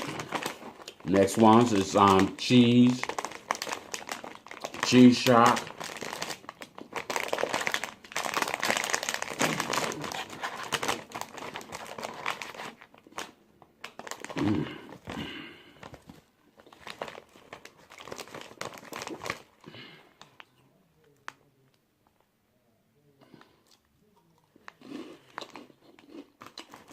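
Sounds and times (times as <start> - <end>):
chip bag crinkling: 0.0 - 20.5, 24.6 - 26.9.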